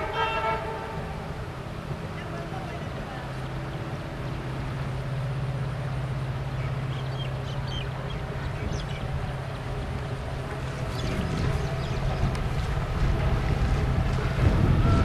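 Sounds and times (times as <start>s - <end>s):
distant train rumbling: 0.0s - 15.0s.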